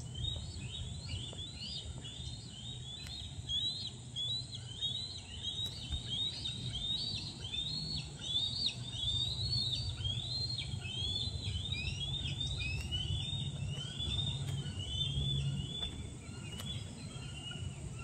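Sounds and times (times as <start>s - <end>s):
high-pitched bird calls: 0.0s - 18.0s
low hum: 0.0s - 18.0s.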